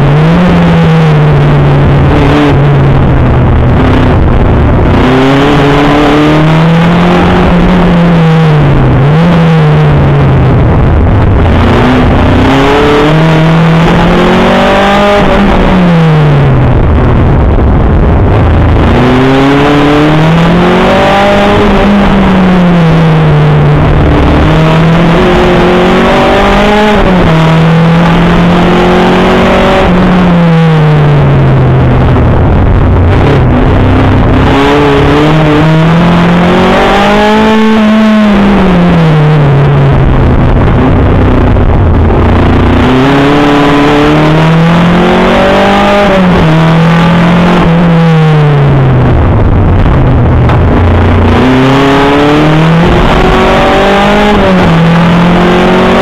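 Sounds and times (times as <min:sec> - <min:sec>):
car engine accelerating: 0:00.0 - 0:56.0
road and tyre noise: 0:00.0 - 0:56.0.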